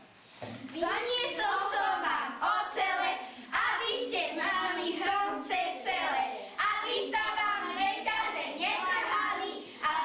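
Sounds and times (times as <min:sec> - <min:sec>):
children singing: 0:01.4 - 0:10.0.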